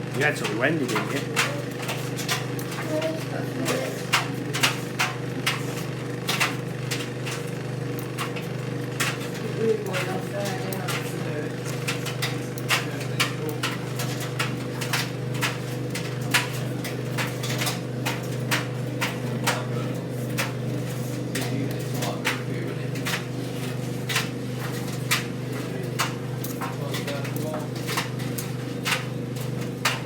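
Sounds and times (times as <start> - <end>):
tumble dryer motor hum: 0.0 - 30.0.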